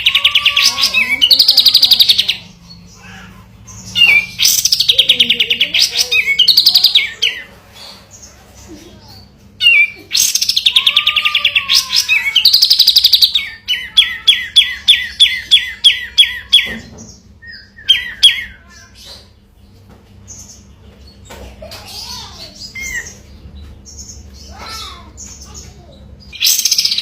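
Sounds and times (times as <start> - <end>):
bird singing: 0.0 - 27.0.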